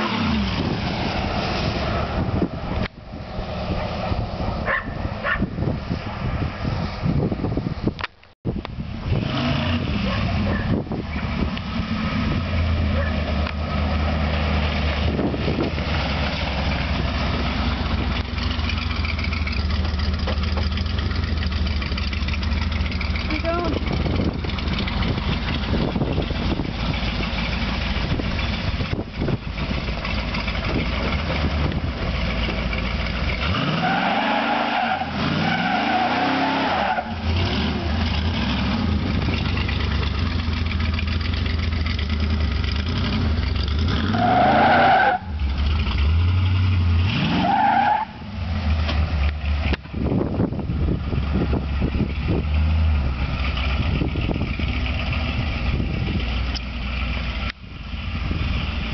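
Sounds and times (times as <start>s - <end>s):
car engine revving: 8.8s - 58.9s.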